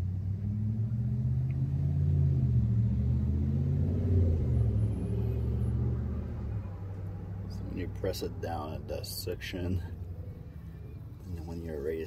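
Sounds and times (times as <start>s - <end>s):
engine rumble: 0.0s - 12.0s.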